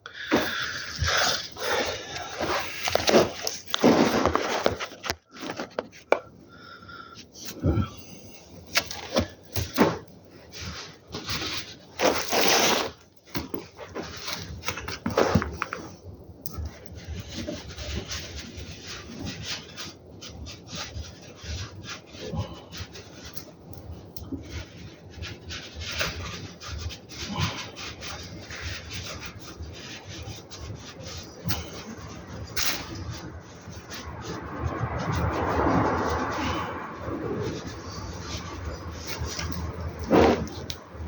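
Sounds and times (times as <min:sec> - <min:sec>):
scrubbing and rubbing strokes: 0:00.0 - 0:41.0.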